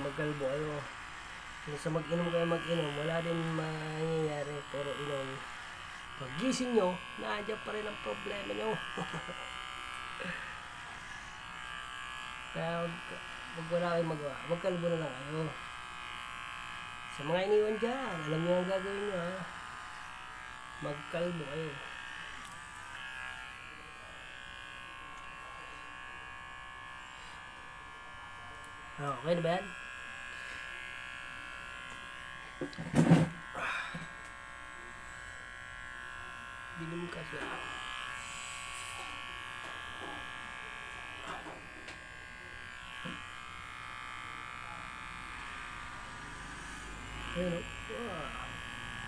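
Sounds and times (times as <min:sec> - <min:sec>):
electric hair clipper buzzing: 0:00.0 - 0:49.0.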